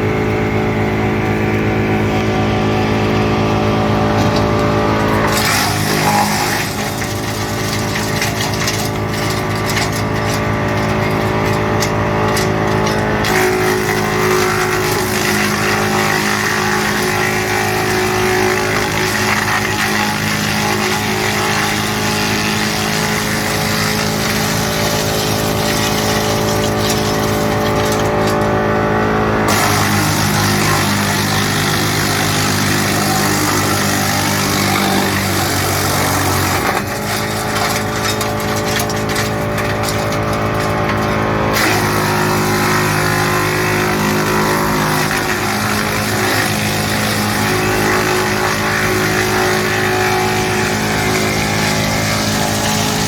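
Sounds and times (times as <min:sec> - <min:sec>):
harsh chipping of branches: 0:00.0 - 0:53.0
woodchipper machine running: 0:00.0 - 0:53.0.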